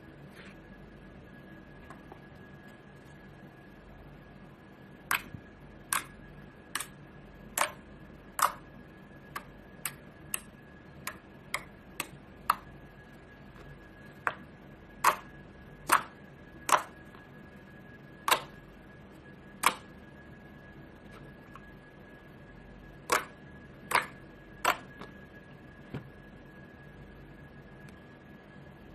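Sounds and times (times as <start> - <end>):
faint high whine: 0.0 - 28.9.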